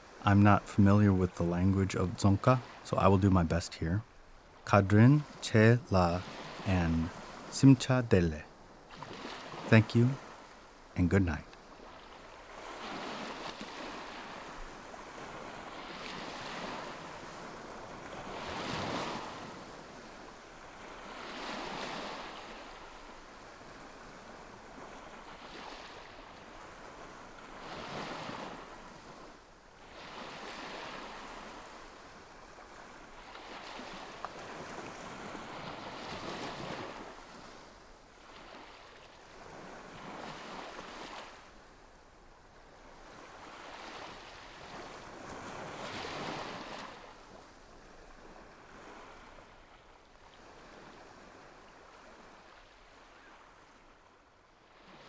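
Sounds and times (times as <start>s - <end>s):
sea waves washing onto beach: 0.0s - 54.0s.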